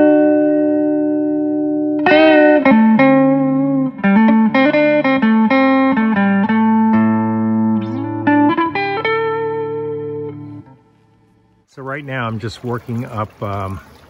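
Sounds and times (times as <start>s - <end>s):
plucked guitar melody: 0.0s - 11.7s.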